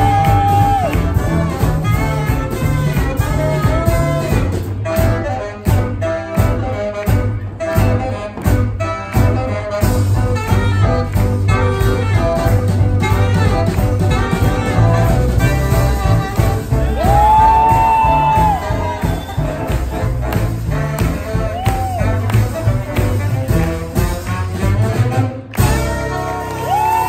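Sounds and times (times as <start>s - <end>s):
swing band playing: 0.0s - 27.0s.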